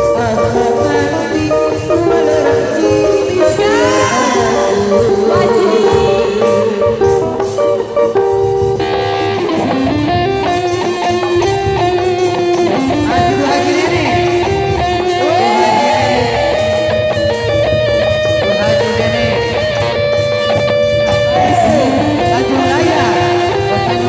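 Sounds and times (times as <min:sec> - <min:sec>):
procession music melody: 0:00.0 - 0:24.0
steady drum beat: 0:00.0 - 0:24.0.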